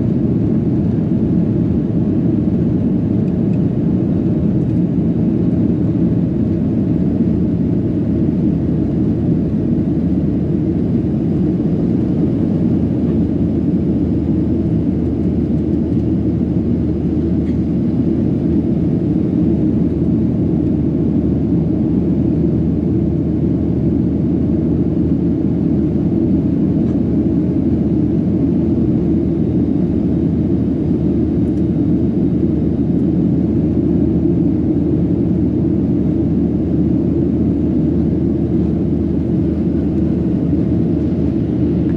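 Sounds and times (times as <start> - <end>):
airliner engine rumble: 0.0 - 41.9.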